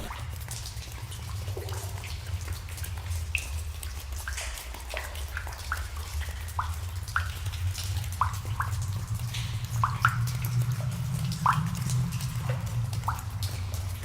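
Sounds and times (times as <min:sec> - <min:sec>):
water drops plinking into pools: 0:00.0 - 0:14.0.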